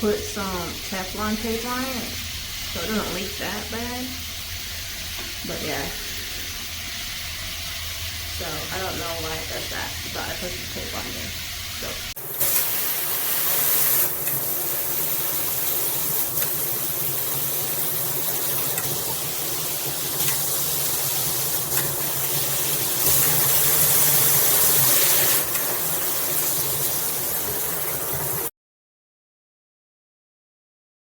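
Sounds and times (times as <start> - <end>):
shower head spraying water: 0.4 - 28.5.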